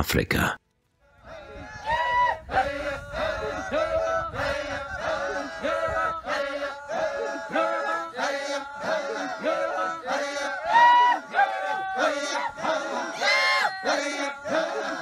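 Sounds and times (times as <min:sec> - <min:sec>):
group chanting rhythmically: 0:01.2 - 0:15.0.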